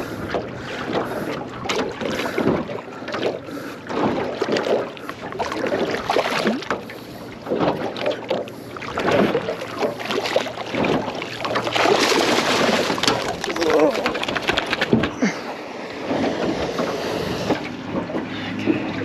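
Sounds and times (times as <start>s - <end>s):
water splashing at kayak: 0.0s - 19.0s.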